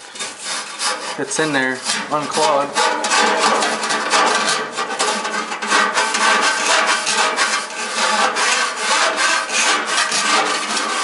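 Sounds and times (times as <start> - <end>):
brush scraping rusty metal: 0.0 - 11.0.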